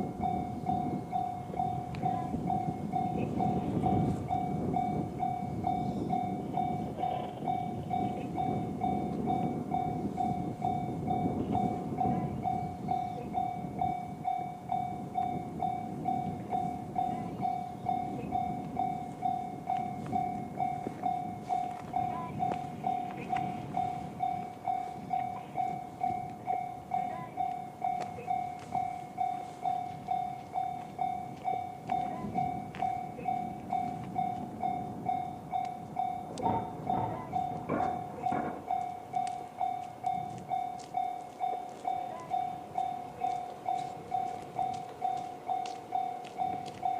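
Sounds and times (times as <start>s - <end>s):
level crossing bell dinging: 0.0s - 46.9s
passing train rumble: 0.0s - 46.9s.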